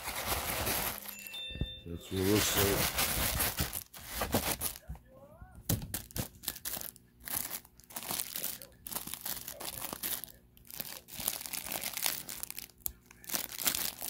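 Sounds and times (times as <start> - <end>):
plastic wrappers crinkling: 0.0 - 4.9, 5.7 - 14.0.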